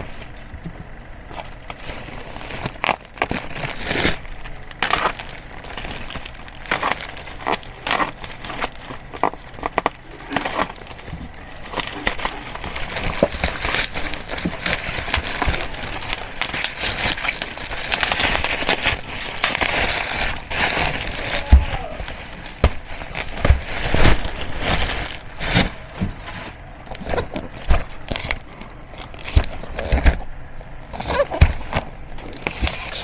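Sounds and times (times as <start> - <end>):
plastic and bubble wrap crinkling: 0.0 - 33.0.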